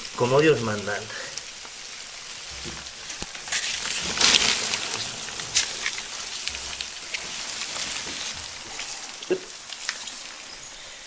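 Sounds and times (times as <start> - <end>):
crickets rustling in a box: 0.0 - 11.0.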